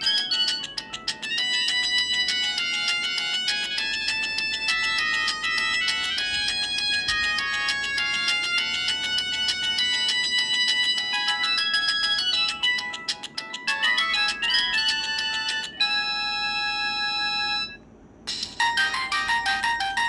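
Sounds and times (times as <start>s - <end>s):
polyphonic phone ringtone: 0.0s - 20.0s.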